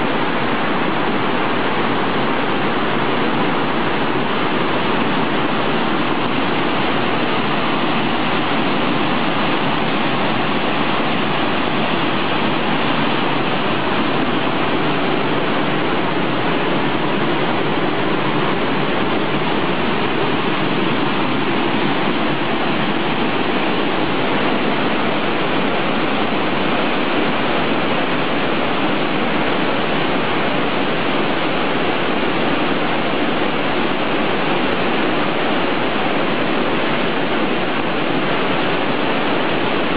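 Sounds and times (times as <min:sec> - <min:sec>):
stream cascading over rocks: 0:00.0 - 0:39.9.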